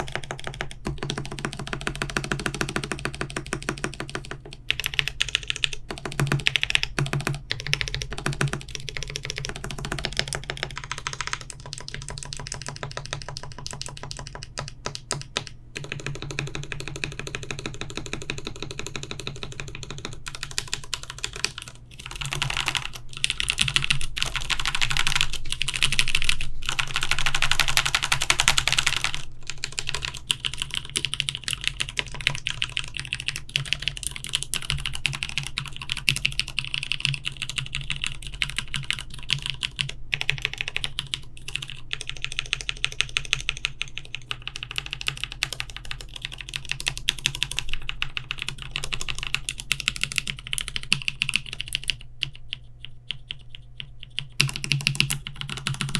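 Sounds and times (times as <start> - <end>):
mechanical keyboard typing: 0.0 - 55.9.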